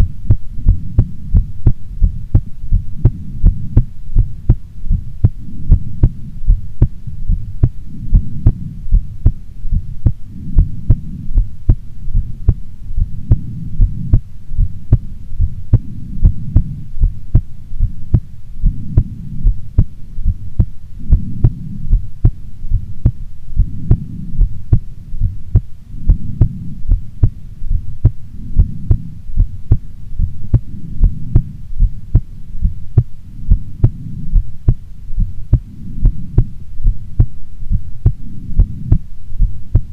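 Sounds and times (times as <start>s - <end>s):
heartbeat thuds: 0.0s - 39.9s
low rumble: 0.0s - 39.9s.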